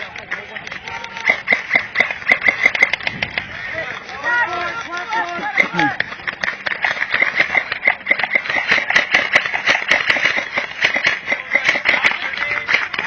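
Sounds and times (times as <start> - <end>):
airsoft guns firing: 0.8 - 13.0.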